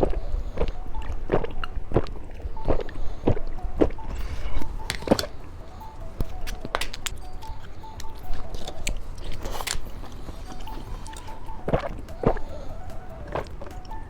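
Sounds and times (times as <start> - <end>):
crunching hard candies: 0.0 - 14.0.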